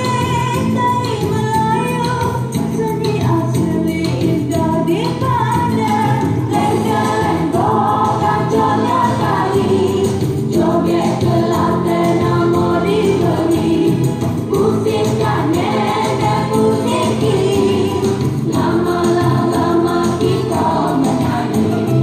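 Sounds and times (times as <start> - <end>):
folk dance song with singing: 0.0 - 22.0.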